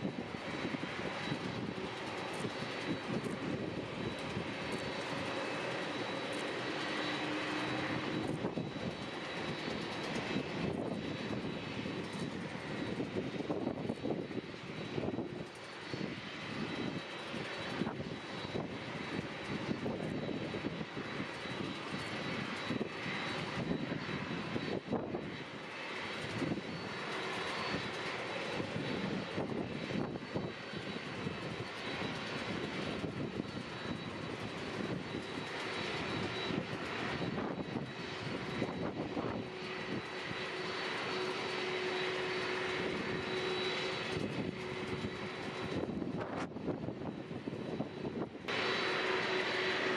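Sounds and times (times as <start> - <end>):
airliner engines rumbling: 0.0 - 49.9.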